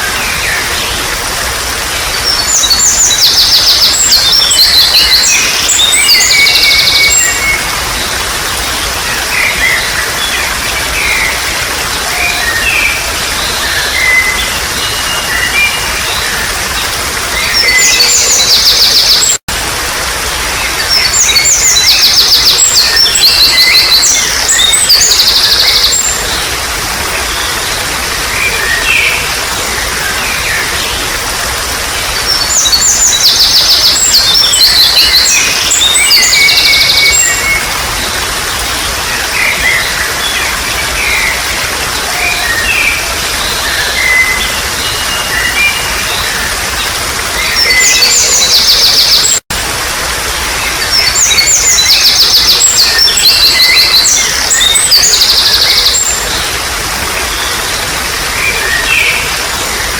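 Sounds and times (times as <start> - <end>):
songbirds singing: 0.0 - 49.4, 50.1 - 59.9
water babbling: 0.0 - 59.9.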